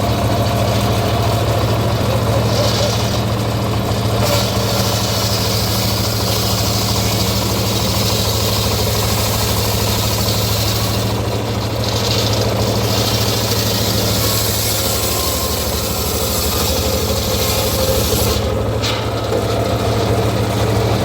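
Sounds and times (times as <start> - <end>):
sawmill engine droning with knock: 0.0 - 21.0.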